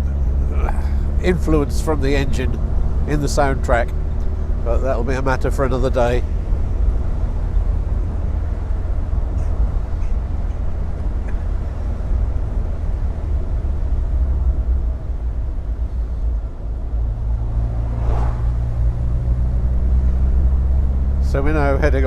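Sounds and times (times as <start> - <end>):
car engine droning: 0.0 - 22.0
road noise: 0.0 - 22.0.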